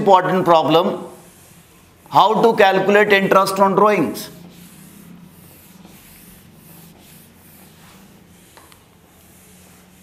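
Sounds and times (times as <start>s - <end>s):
eraser rubbing on whiteboard: 0.0s - 10.0s.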